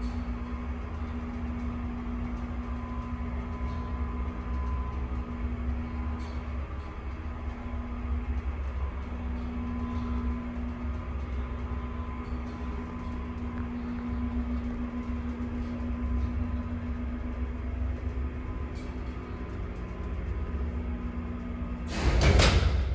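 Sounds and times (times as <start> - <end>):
steady droning tone: 0.0 - 22.6
elevator hum and rumble: 0.0 - 22.9.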